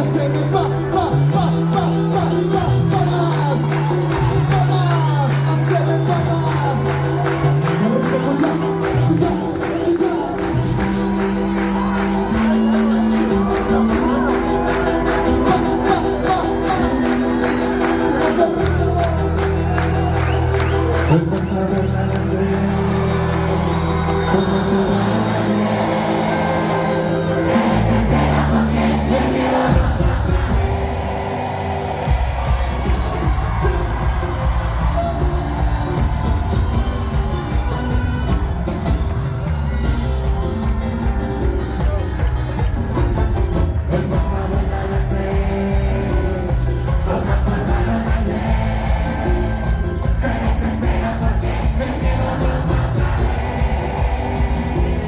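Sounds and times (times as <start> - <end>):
bass and keyboard notes: 0.0 - 55.0
fast percussion beat: 0.0 - 55.0.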